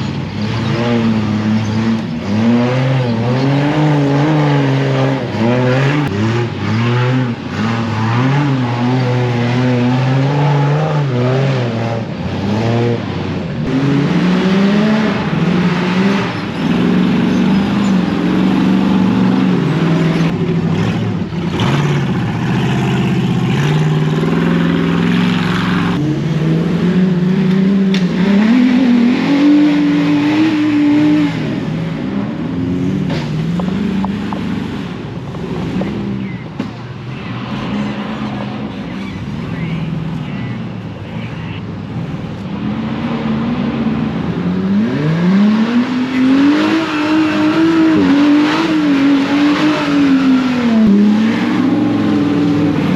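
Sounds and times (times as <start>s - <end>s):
engine revving: 0.0s - 40.2s, 42.0s - 52.9s.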